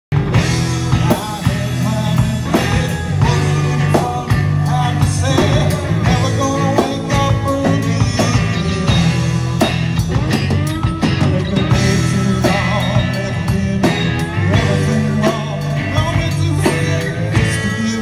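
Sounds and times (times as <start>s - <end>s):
drum kit beating: 0.1s - 18.0s
live blues-rock band: 0.1s - 18.0s.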